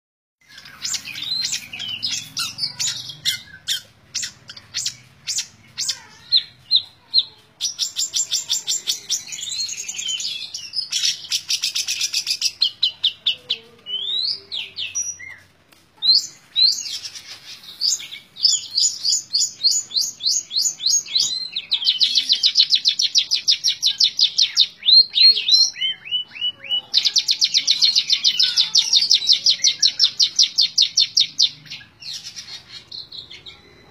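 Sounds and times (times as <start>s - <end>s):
bird singing rapid sharp notes: 0.4s - 33.9s.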